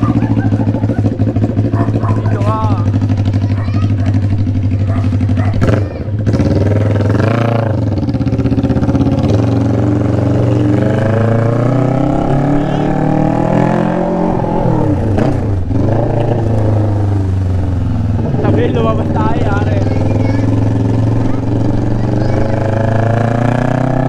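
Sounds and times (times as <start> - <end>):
motorcycle idling and revving: 0.0 - 24.0.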